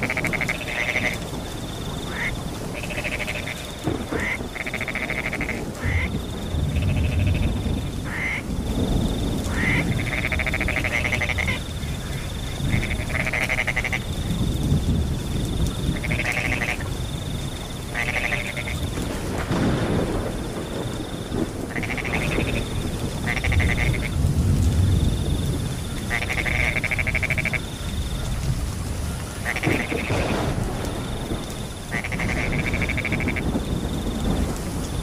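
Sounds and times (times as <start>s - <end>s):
crickets trilling: 0.0s - 35.0s
frogs croaking: 0.0s - 35.0s.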